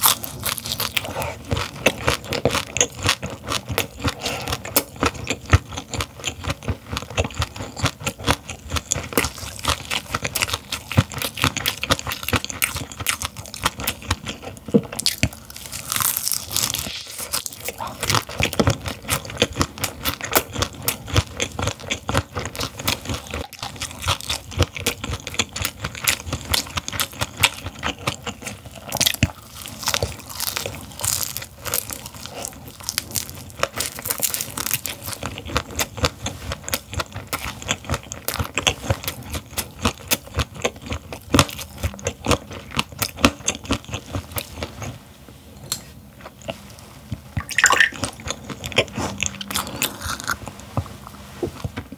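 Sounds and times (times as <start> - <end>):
crunching and chewing fish: 0.0 - 45.0, 46.2 - 51.6.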